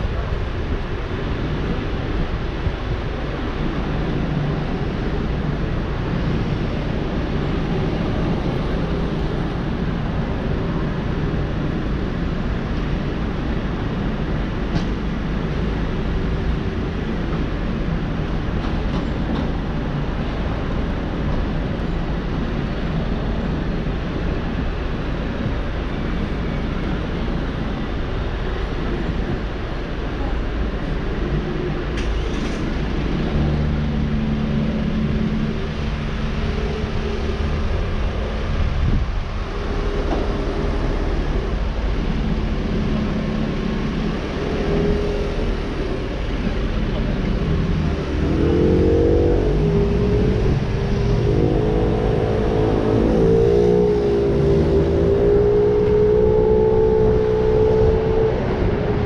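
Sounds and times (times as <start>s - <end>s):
road and traffic noise: 0.0s - 59.0s.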